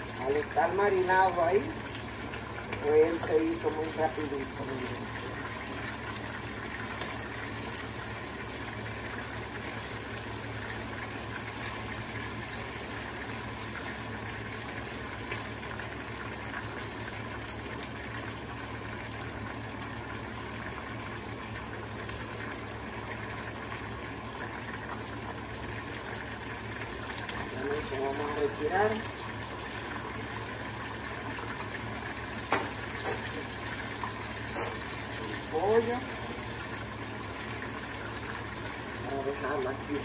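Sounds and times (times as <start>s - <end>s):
chicken sizzling in hot oil: 0.0s - 40.0s.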